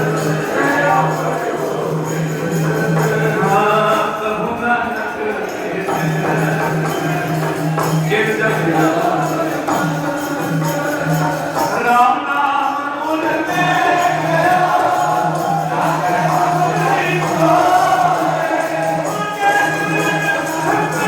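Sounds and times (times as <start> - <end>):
instrumental accompaniment: 0.0 - 12.2, 13.1 - 21.0
group devotional singing: 0.0 - 21.0
jingling percussion: 0.0 - 21.0.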